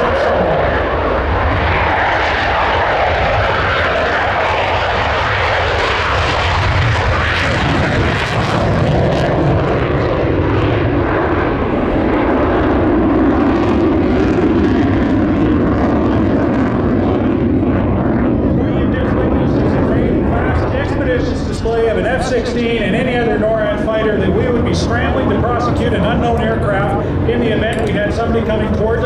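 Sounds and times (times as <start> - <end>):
fighter jet roar: 0.0 - 29.0.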